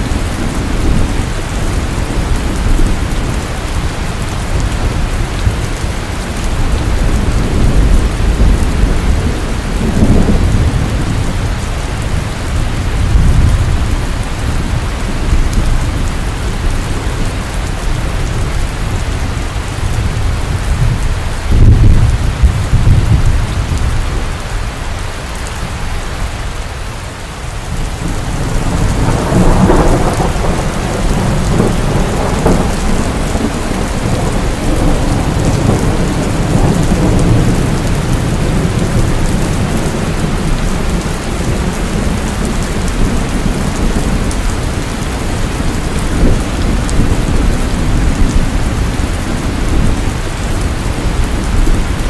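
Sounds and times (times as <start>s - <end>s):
low thunder rumbling: 0.0s - 26.4s, 27.3s - 52.0s
heavy rain falling: 0.0s - 52.0s.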